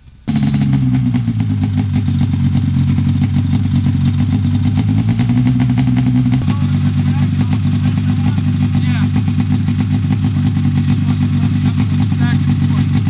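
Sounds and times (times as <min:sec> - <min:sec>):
snowmobile engine running: 0:00.3 - 0:13.0.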